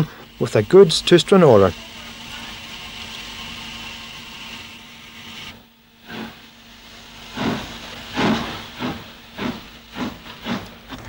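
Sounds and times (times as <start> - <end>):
locomotive exhaust chuffs: 0.0 - 11.0
steam locomotive hissing: 0.0 - 11.0.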